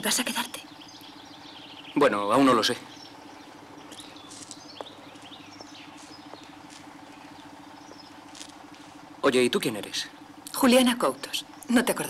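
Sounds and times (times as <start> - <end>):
bird chirps and gliding calls: 0.0 - 12.0
steady low hum: 0.0 - 12.0.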